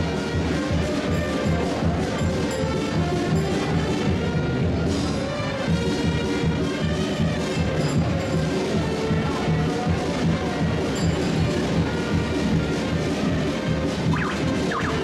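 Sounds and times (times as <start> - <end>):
street band with brass and drums: 0.0 - 15.0.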